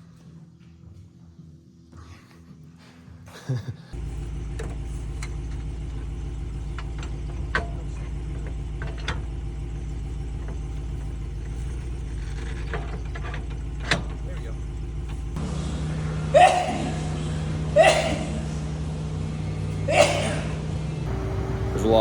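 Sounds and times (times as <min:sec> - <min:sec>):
engine droning: 0:04.0 - 0:22.0.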